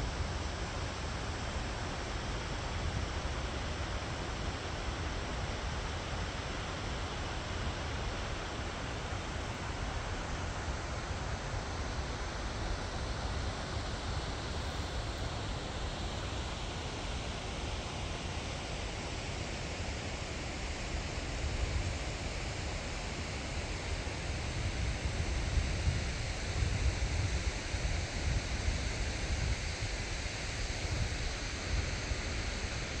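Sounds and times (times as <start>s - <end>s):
rushing hiss of open air: 0.0s - 33.0s.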